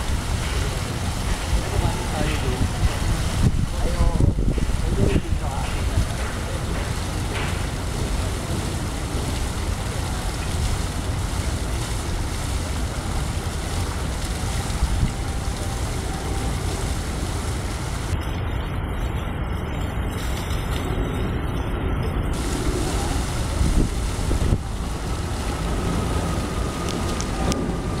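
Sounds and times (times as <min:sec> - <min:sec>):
fountain water splashing: 0:00.0 - 0:28.0
wind rumble on microphone: 0:00.0 - 0:28.0.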